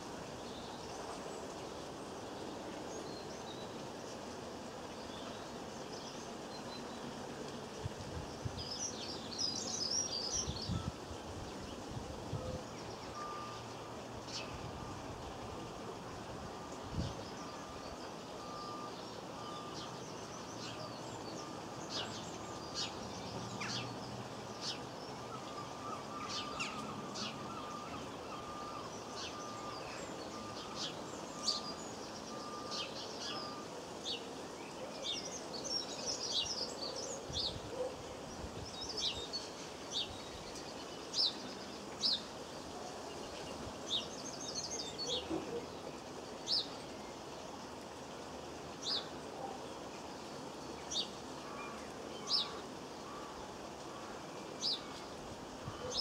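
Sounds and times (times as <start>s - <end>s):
birds twittering: 0.0s - 56.0s
small birds chirping: 0.0s - 56.0s.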